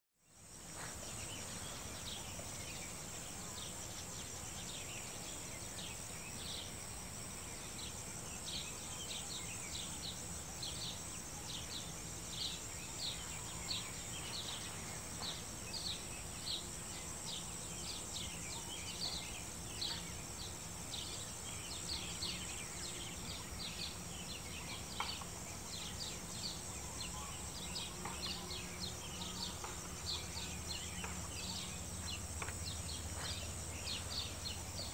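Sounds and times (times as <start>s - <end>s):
high insect drone: 0.2s - 34.9s.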